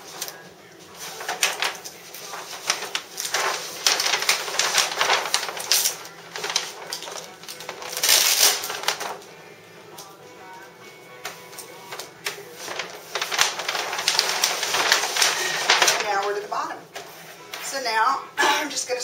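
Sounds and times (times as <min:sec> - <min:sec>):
vinyl film rustling and crinkling: 0:00.0 - 0:10.2, 0:10.8 - 0:17.8.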